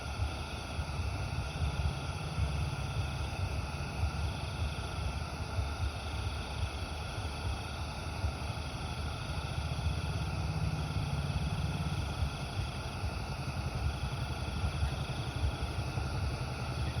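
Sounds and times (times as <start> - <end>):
pressure lantern hissing roar: 0.0 - 17.0.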